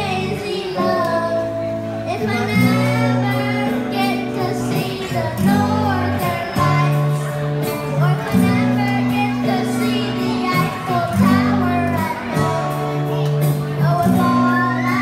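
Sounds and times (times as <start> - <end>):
backing music: 0.0 - 15.0
girl singing into microphone: 0.0 - 15.0.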